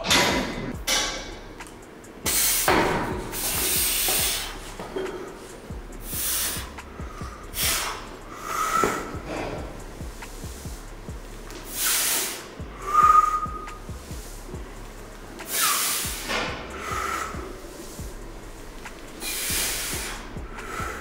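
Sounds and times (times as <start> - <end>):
forceful hissing breaths: 0.6 - 21.0.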